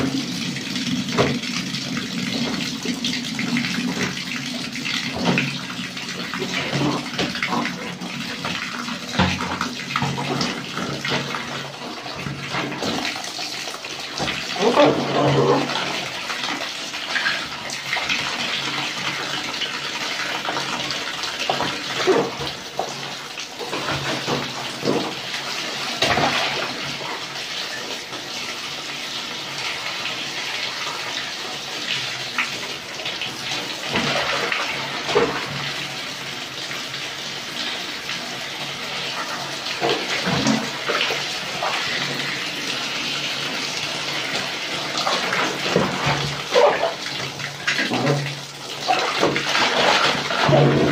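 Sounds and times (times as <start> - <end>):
laundry sloshing and splashing: 0.0 - 27.7, 32.0 - 36.1, 38.8 - 50.9
tap water running into basin: 0.0 - 50.9.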